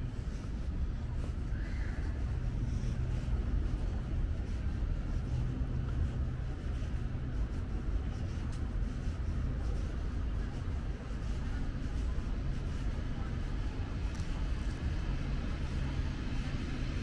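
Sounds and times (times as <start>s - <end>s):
city traffic rumble: 0.0s - 17.0s
faint hum: 0.0s - 17.0s.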